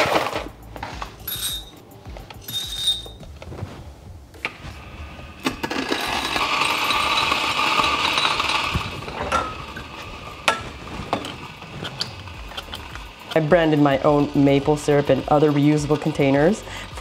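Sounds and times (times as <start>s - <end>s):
coffee grinder grinding beans: 0.0s - 1.7s, 5.0s - 17.0s.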